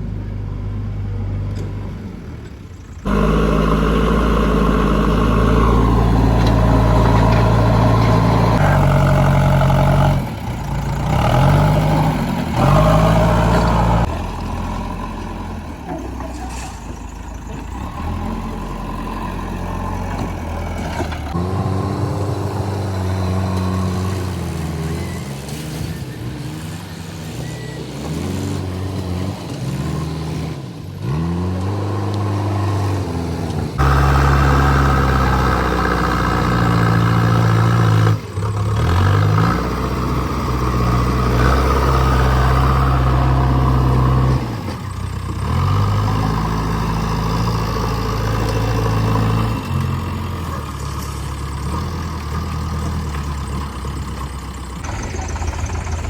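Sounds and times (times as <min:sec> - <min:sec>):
heavy diesel engines revving: 0:00.0 - 0:56.0.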